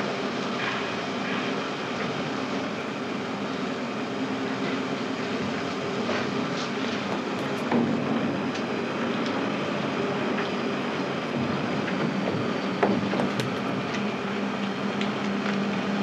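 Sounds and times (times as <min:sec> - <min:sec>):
mechanical running hum: 0:00.0 - 0:16.0.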